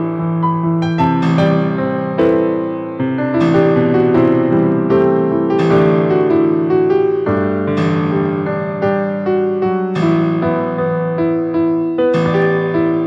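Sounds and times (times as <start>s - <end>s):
piano tune: 0.0s - 13.0s.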